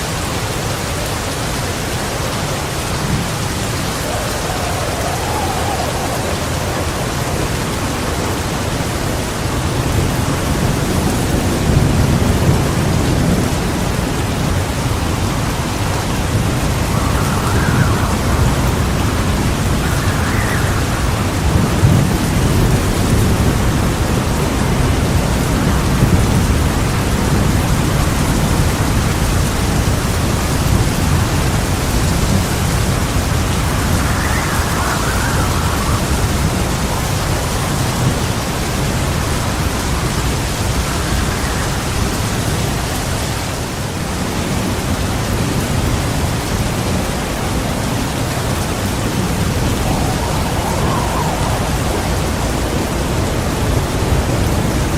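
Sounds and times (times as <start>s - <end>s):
heavy rain falling: 0.0s - 54.9s
rolling thunder: 2.1s - 54.9s.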